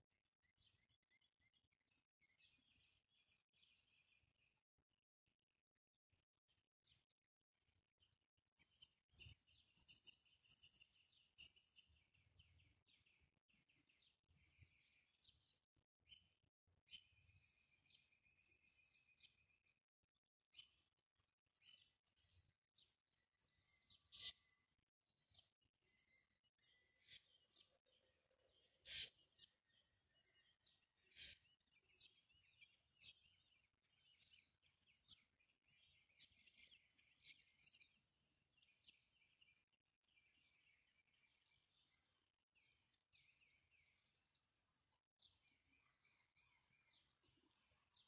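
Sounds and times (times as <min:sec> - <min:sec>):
songbirds chirping: 0:00.0 - 0:48.0.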